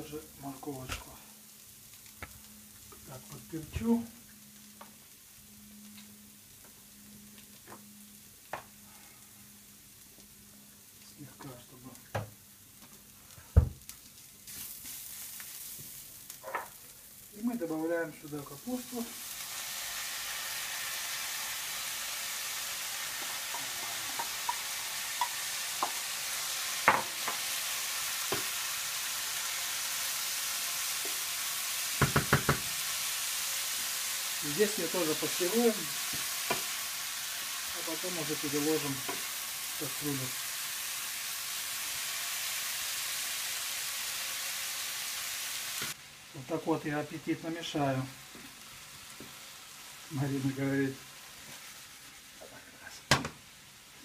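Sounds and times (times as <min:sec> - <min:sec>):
vegetables sizzling in pan: 0:00.0 - 0:54.0.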